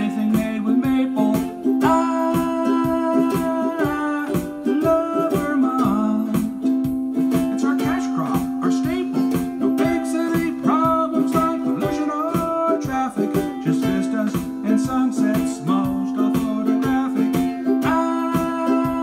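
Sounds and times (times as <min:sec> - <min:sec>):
man singing: 0:00.0 - 0:19.0
strummed small stringed instrument: 0:00.0 - 0:19.0.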